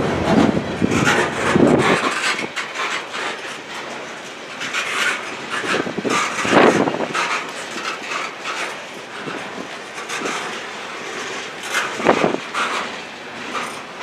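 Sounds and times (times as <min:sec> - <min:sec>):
steady train rolling noise: 0:00.0 - 0:14.0
train wheels clacking over rail joints: 0:00.0 - 0:14.0.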